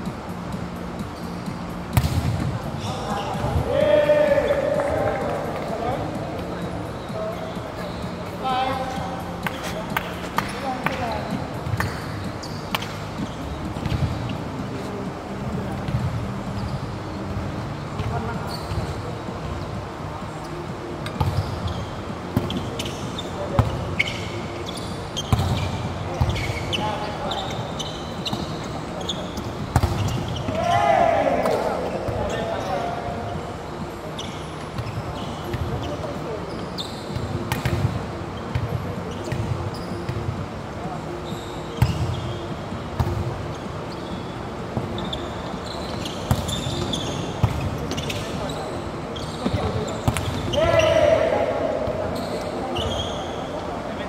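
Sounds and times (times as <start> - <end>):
court shoes squeaking: 0.0 - 54.0.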